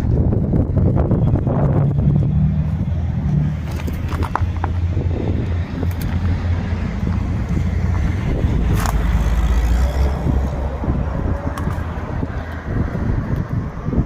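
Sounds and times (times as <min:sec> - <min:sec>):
road vehicle rumble: 0:00.0 - 0:14.0.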